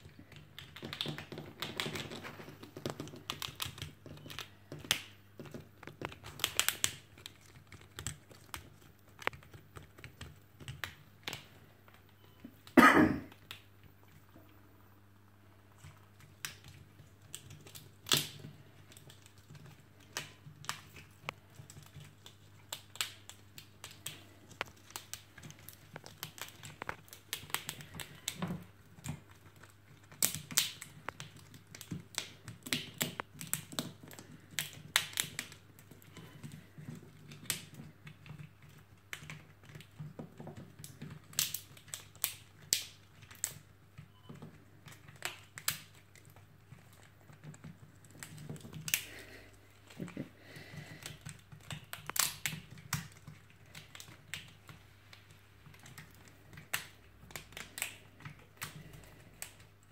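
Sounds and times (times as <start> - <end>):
squirrel gnawing a pine cone: 0.0 - 59.9.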